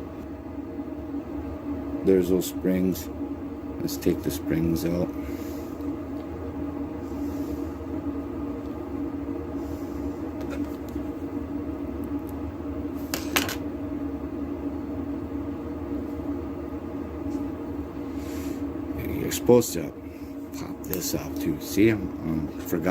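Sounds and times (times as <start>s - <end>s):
steady background hum: 0.0s - 22.9s.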